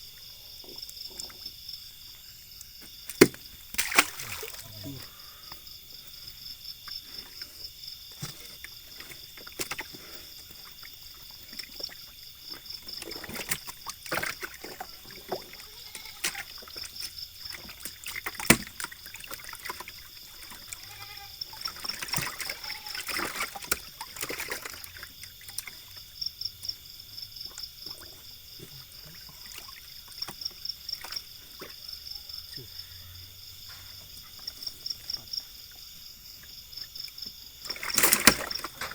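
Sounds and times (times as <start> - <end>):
high insect trill: 0.0 - 38.9
water sloshing and splashing: 0.0 - 38.9.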